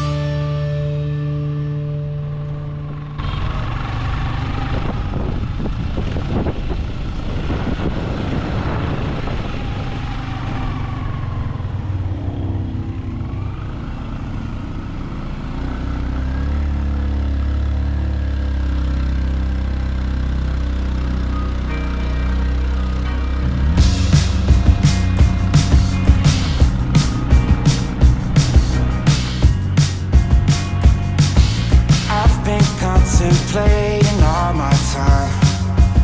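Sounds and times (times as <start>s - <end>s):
road and wind noise: 0.0s - 36.0s
vehicle engine running: 0.0s - 36.0s.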